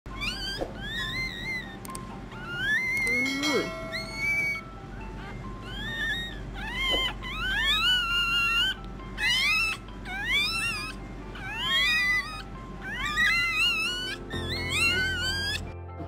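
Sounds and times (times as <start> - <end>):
puppies crying: 0.1 - 15.8.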